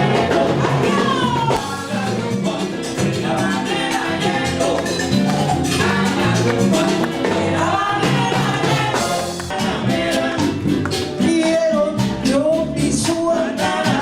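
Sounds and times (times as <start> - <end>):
salsa band music: 0.0 - 14.0.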